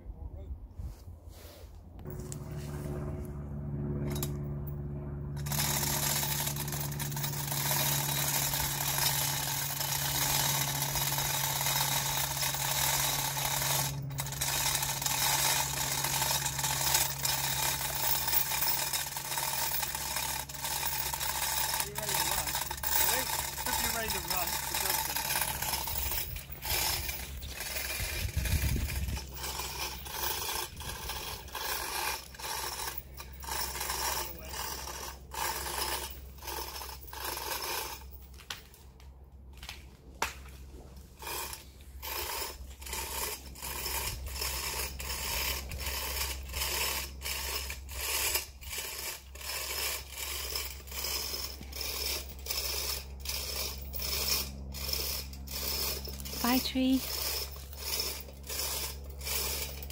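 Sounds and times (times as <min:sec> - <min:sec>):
hand ratchet clicking: 0:05.4 - 0:38.0, 0:41.2 - 0:59.9.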